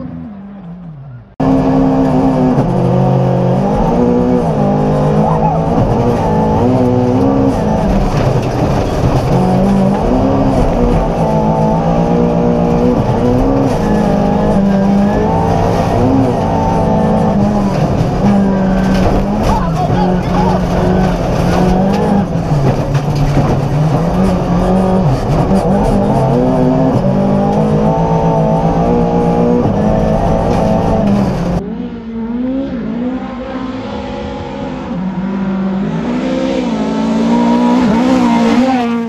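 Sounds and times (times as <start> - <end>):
car engine revving at full throttle: 0.0 - 39.0.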